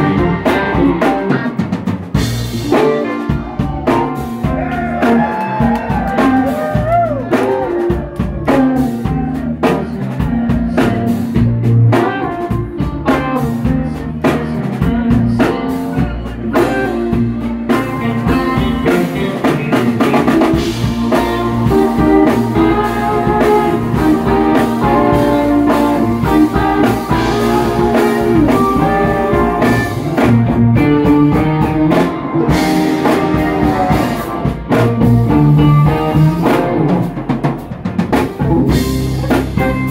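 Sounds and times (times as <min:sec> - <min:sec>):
bass guitar: 0:00.0 - 0:39.9
drum kit: 0:00.0 - 0:39.9
electric guitars: 0:00.0 - 0:39.9
keyboards: 0:00.0 - 0:39.9.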